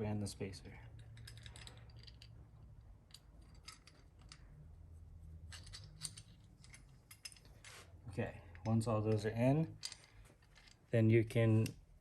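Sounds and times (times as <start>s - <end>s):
clicks and rattles of hardware: 0.8s - 4.6s, 5.4s - 7.8s, 8.4s - 11.8s.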